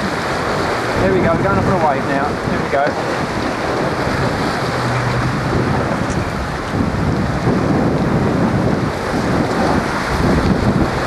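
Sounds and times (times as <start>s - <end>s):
water rushing along boat hull: 0.0s - 11.0s
wind buffeting microphone: 0.0s - 11.0s.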